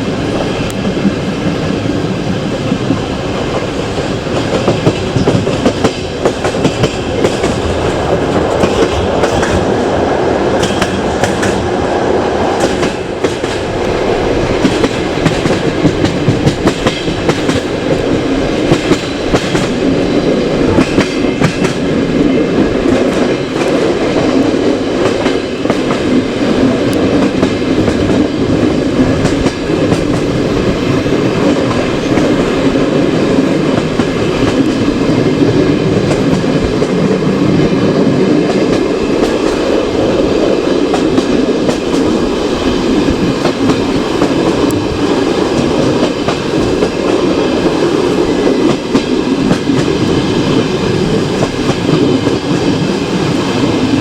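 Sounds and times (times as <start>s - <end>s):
rail joint clicks: 0.0s - 54.0s
train wheels rumbling on rails: 0.0s - 54.0s.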